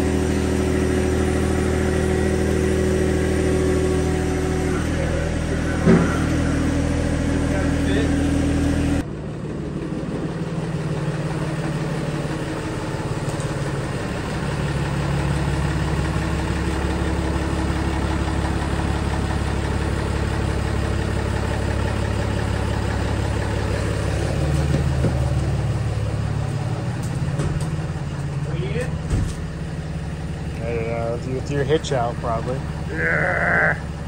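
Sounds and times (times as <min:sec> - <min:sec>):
pickup truck engine idling: 0:00.0 - 0:34.0.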